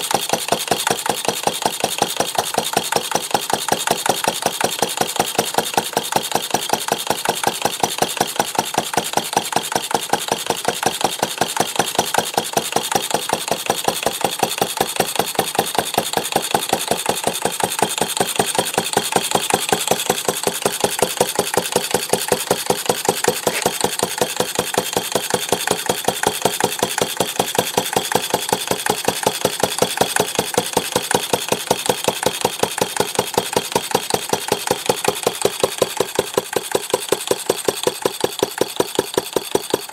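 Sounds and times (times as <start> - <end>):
stationary engine running: 0.0 - 39.9.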